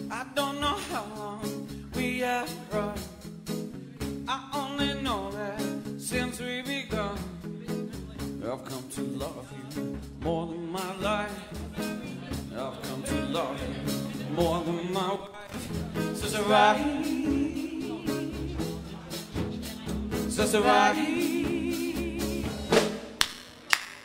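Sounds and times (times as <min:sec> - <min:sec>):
person singing: 0:00.0 - 0:03.3, 0:04.3 - 0:07.8, 0:10.2 - 0:22.8
live band playing: 0:00.0 - 0:14.7, 0:15.5 - 0:23.2.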